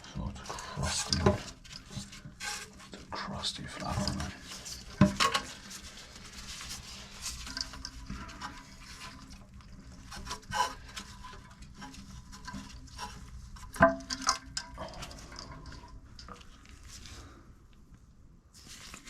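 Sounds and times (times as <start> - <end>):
parts handled inside toilet tank: 0.0 - 3.2, 3.8 - 17.3.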